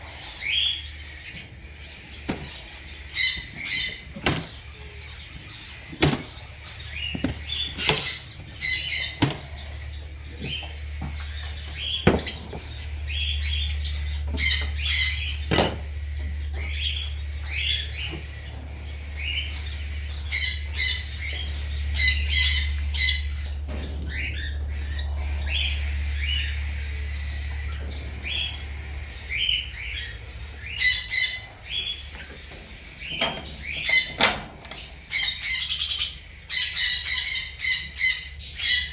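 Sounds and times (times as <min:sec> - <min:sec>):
low steady rumble: 0:00.0 - 0:38.9
parrots squawking and chirping: 0:00.0 - 0:38.9.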